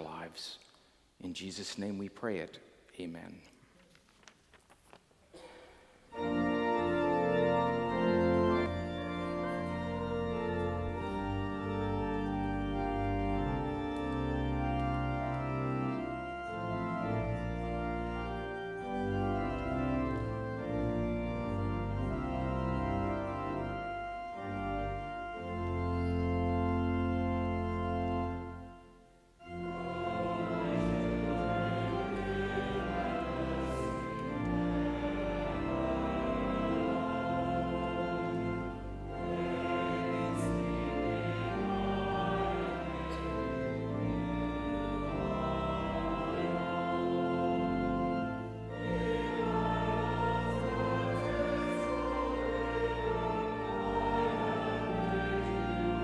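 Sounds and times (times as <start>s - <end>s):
church organ chords: 5.4s - 56.0s.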